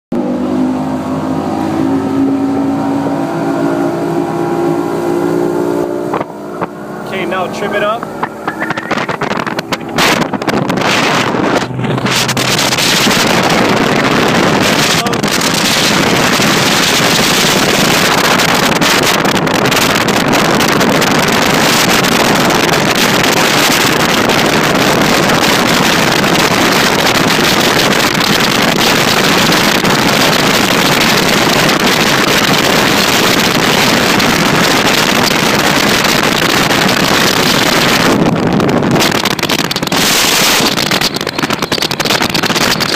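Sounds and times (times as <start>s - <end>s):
outboard motor running fast: 0.1s - 42.9s
wind buffeting microphone: 0.2s - 42.9s.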